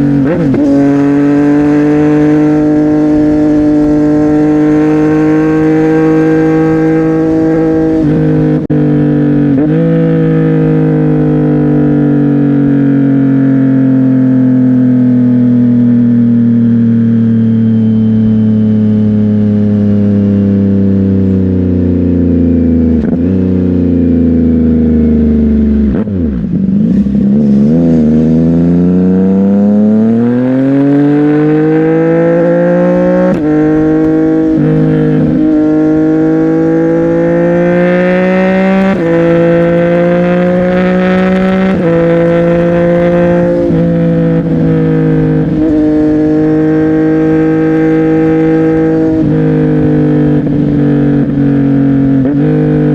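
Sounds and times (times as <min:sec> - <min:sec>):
motorcycle engine: 0:00.0 - 0:52.9.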